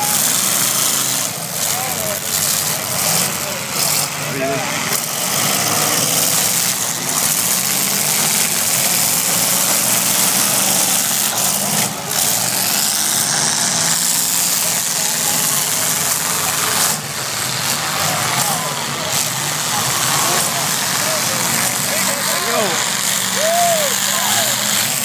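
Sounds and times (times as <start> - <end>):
car engines running loudly: 0.0 - 25.0.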